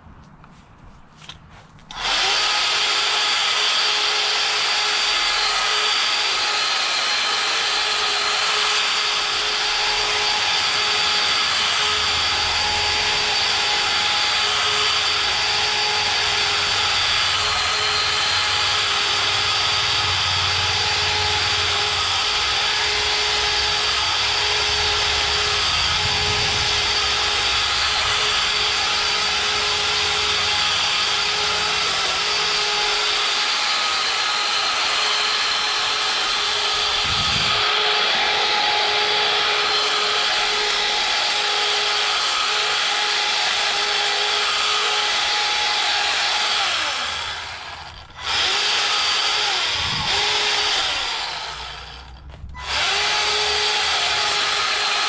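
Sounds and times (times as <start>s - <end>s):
string trimmer running: 1.2s - 55.0s.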